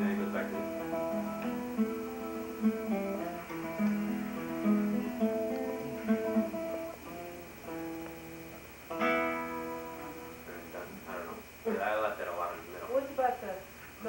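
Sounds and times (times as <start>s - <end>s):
classical guitar playing: 0.0s - 11.4s.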